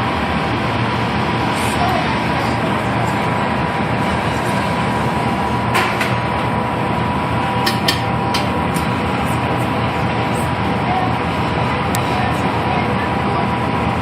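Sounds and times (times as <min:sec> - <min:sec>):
gas burner rushing: 0:00.0 - 0:14.0.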